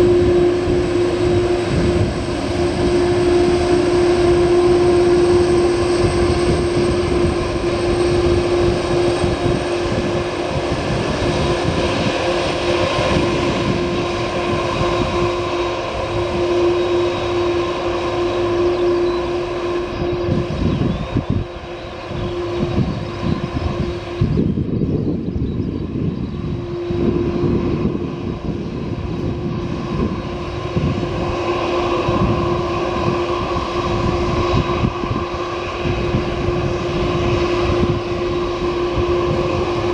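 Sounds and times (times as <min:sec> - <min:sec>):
jet engines whining: 0:00.0 - 0:39.9
uneven low rumble: 0:00.0 - 0:39.9.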